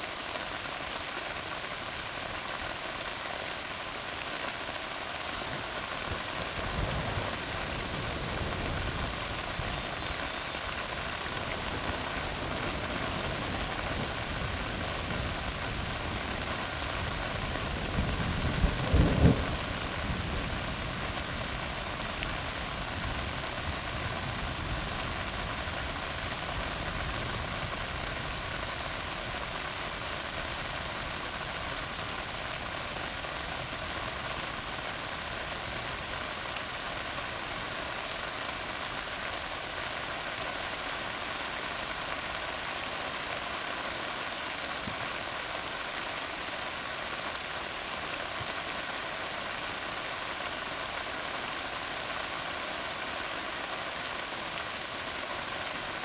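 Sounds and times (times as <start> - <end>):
rain on asphalt: 0.0 - 56.0.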